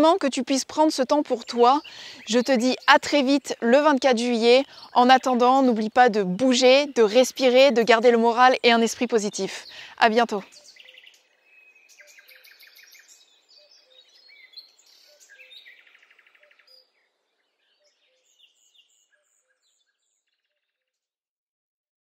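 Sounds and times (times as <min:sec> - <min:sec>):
birds singing and chirping: 0:00.0 - 0:20.9.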